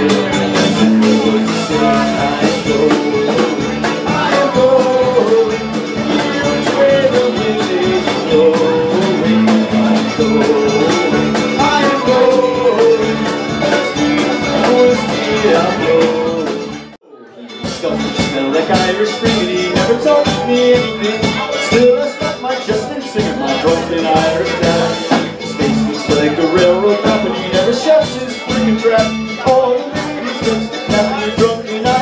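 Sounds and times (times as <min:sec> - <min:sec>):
folk band playing: 0:00.0 - 0:32.0.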